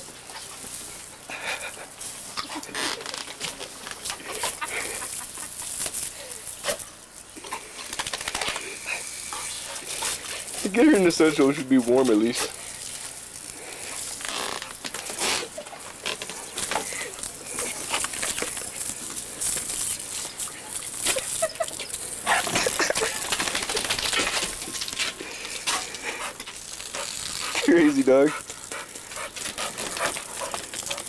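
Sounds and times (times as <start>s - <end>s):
water spray hissing and splattering: 0.0s - 31.0s.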